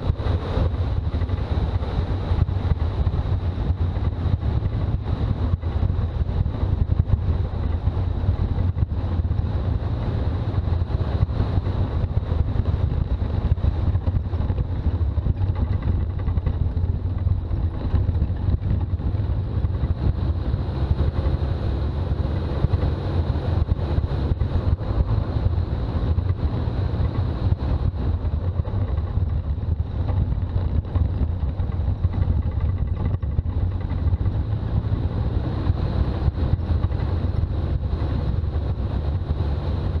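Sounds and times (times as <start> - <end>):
diesel engine droning: 0.0 - 40.0
road noise: 0.0 - 40.0.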